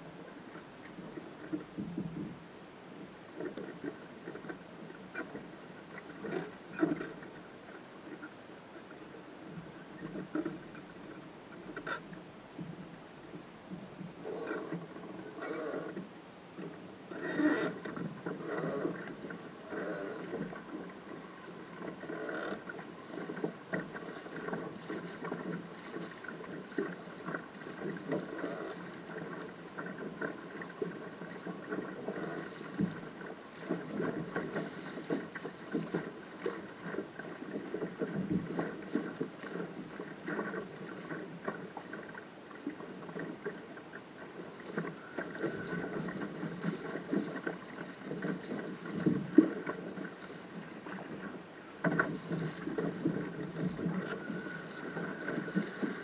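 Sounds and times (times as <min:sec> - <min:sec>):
water slapping against a hull: 0:00.0 - 0:56.0
water splashes: 0:00.0 - 0:56.0.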